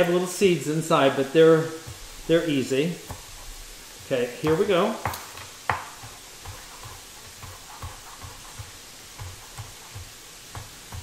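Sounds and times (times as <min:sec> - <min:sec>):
knife chopping on wooden board: 0:01.6 - 0:11.0.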